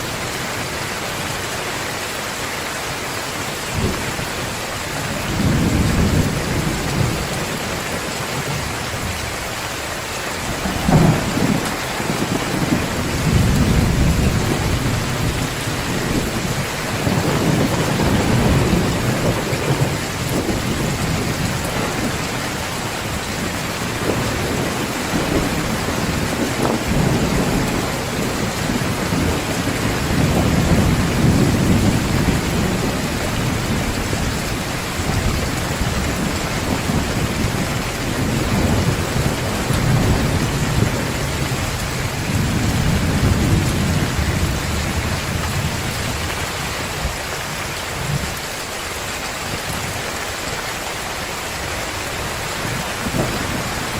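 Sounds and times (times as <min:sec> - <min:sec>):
heavy rain pouring: 0:00.0 - 0:53.9
low rolls of thunder: 0:03.8 - 0:09.3, 0:10.4 - 0:47.2, 0:52.6 - 0:53.9.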